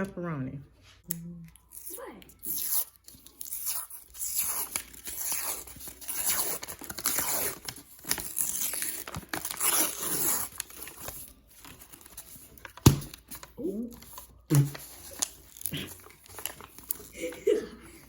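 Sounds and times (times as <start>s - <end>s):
packaging tearing and crinkling: 2.4s - 17.4s.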